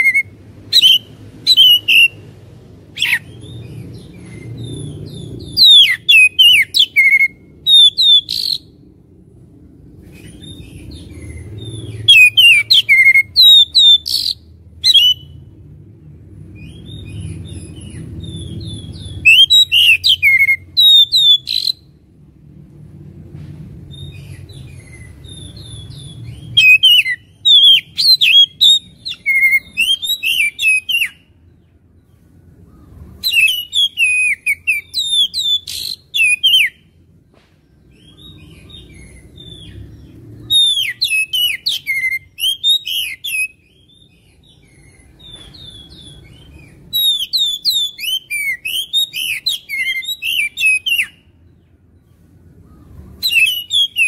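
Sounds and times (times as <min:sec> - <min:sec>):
bird chirping and whistling: 0:00.0 - 0:02.3, 0:02.9 - 0:08.8, 0:10.1 - 0:15.5, 0:16.6 - 0:21.9, 0:23.9 - 0:31.3, 0:33.2 - 0:37.0, 0:37.9 - 0:51.3, 0:53.2 - 0:54.0.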